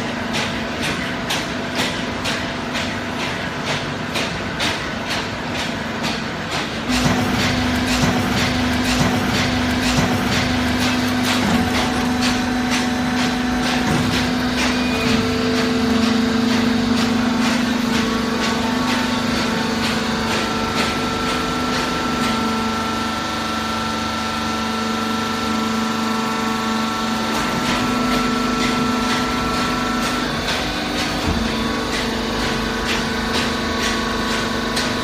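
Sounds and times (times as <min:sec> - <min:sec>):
baler machinery humming: 0:06.3 - 0:35.0.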